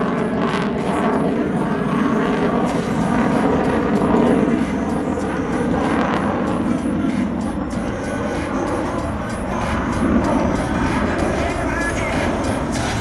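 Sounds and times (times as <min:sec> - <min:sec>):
jet engines in flight: 0:00.0 - 0:13.0.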